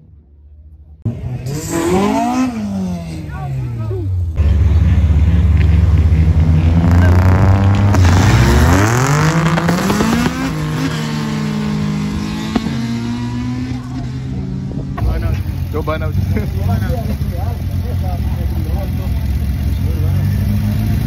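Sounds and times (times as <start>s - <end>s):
drag car engines revving: 0.9s - 21.0s.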